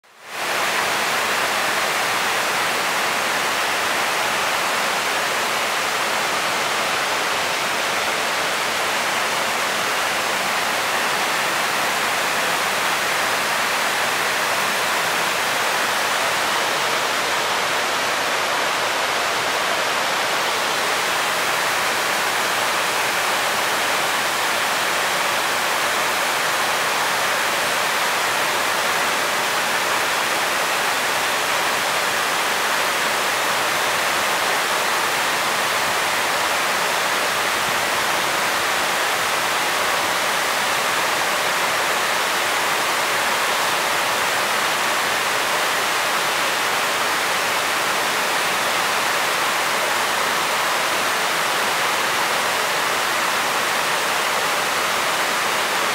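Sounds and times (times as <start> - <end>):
waterfall rushing: 0.1 - 55.9.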